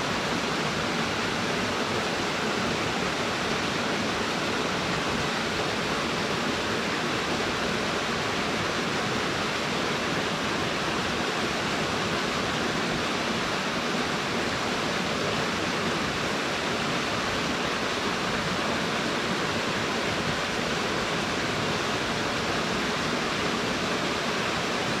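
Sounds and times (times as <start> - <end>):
waterfall rushing into pool: 0.0 - 25.0.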